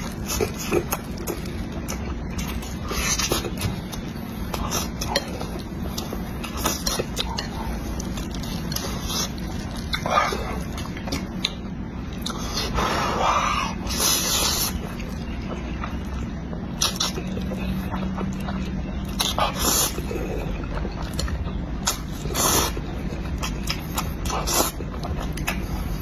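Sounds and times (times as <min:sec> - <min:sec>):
open-mouth chewing: 0:00.0 - 0:26.0.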